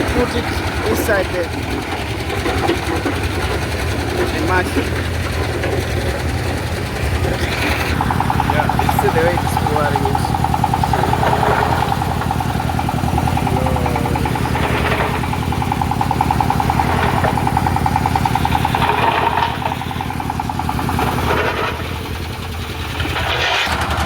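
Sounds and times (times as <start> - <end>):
large machine throbbing: 0.0 - 24.0.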